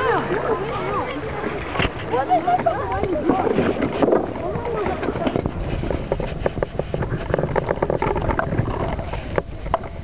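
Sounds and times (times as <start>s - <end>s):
water splashing and sloshing: 0.0s - 10.0s
wind rumbling on microphone: 0.0s - 10.0s.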